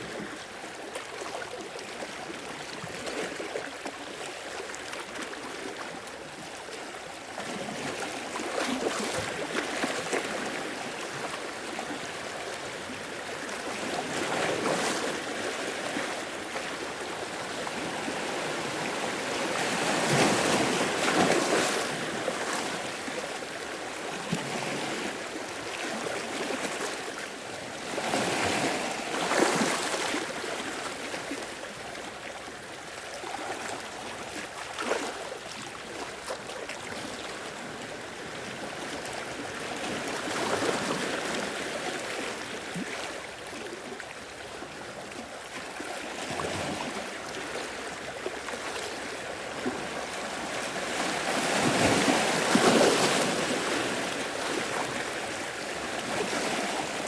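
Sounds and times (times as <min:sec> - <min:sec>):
small waves breaking on shore: 0:00.0 - 0:57.0.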